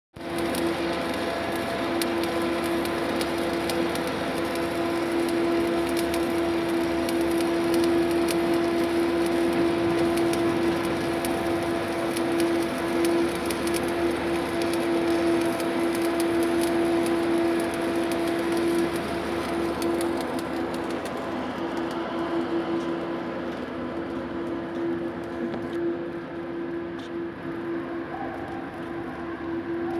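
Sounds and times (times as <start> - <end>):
arc welding crackling and sizzling: 0.2 - 29.9
welding equipment hum: 0.2 - 29.9.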